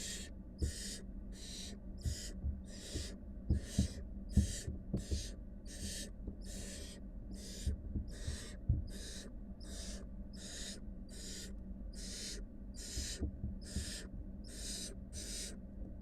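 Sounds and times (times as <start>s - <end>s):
owl nestlings begging hiss: 0.0s - 15.6s
steady low hum: 0.0s - 16.0s.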